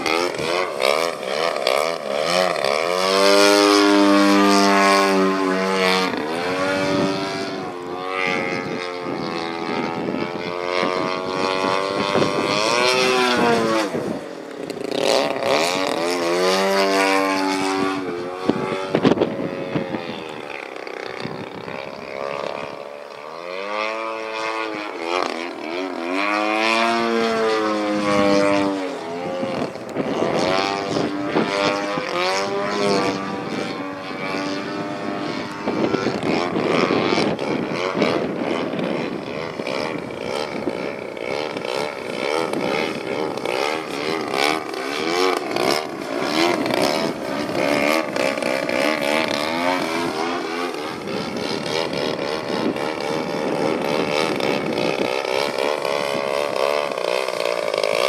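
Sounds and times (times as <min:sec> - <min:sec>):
model plane engine in flight: 0:00.0 - 0:58.0.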